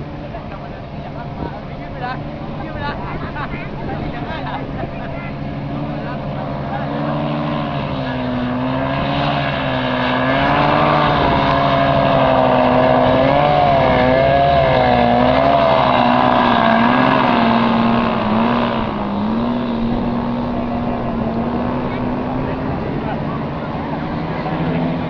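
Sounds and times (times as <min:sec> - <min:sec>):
motor engines running: 0:00.0 - 0:25.0.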